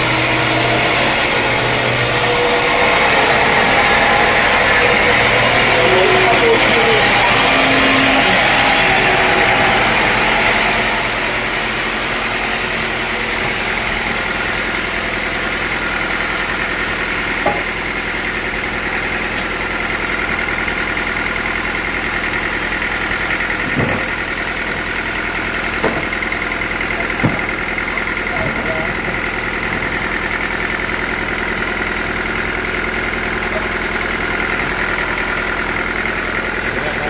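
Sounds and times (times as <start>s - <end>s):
sawmill machine hum: 0.0s - 37.0s.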